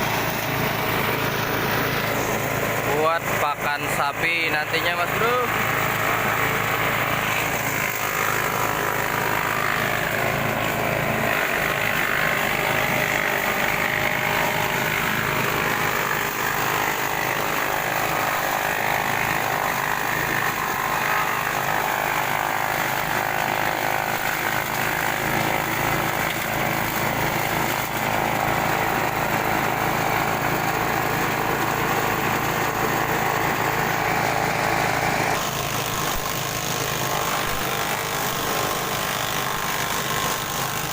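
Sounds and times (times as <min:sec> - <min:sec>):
grass chopper engine running: 0:00.0 - 0:40.9.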